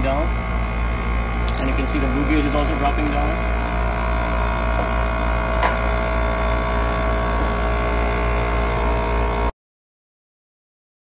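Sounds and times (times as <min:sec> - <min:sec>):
air conditioner unit humming: 0:00.0 - 0:09.5.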